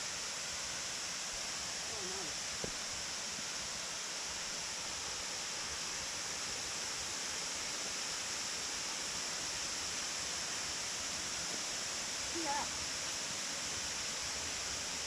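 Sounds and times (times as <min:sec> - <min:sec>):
water rushing over waterfall: 0:00.0 - 0:15.0.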